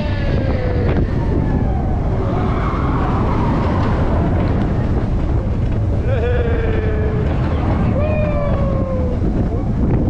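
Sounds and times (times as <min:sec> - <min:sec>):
falling whine: 0:00.0 - 0:10.0
roller coaster rumbling: 0:00.0 - 0:10.0.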